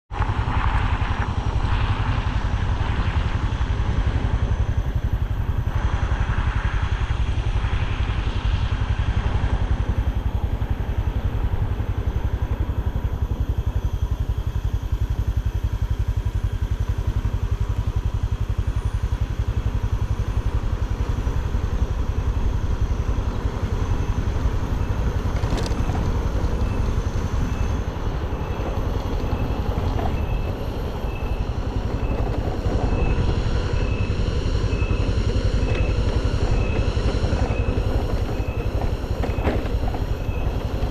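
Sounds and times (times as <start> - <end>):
motor scooter engine drone: 0.1 - 40.9.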